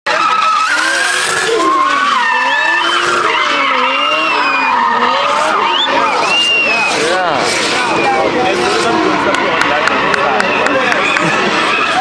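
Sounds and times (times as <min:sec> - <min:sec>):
car engine revving: 0:00.1 - 0:12.0
tyres squealing: 0:00.1 - 0:12.0.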